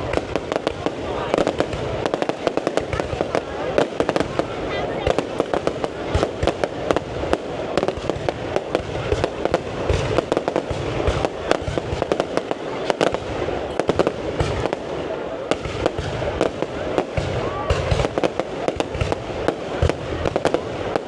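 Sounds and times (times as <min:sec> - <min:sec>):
fireworks booms: 0:00.0 - 0:21.0
fireworks cracking and popping: 0:00.0 - 0:21.0.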